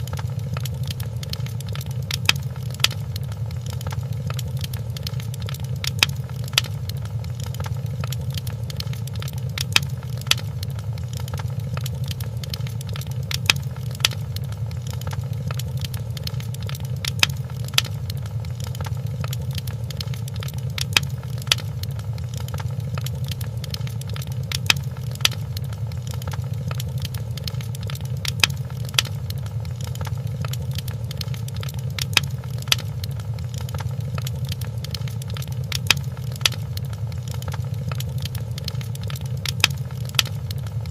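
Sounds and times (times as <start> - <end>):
low rumble of flames: 0.0 - 40.9
sharp pops of fire: 0.0 - 40.9
wood fire crackling: 0.0 - 40.9.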